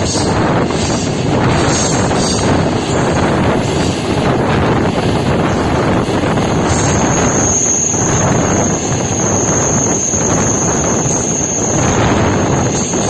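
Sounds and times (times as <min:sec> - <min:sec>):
wheels squealing against rails: 0:00.0 - 0:04.1, 0:05.4 - 0:13.0
train rumbling and rattling: 0:00.0 - 0:13.0.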